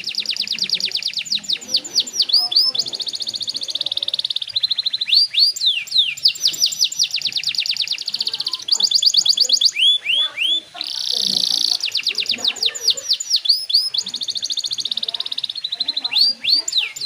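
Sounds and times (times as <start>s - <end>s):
canary singing trills and whistles: 0.0s - 17.0s.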